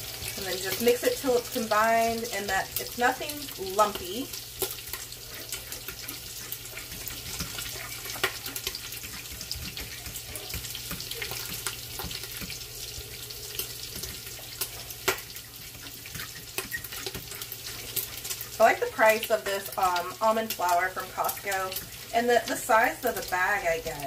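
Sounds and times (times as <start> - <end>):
bacon sizzling: 0.0 - 24.0
grease popping: 0.0 - 24.0.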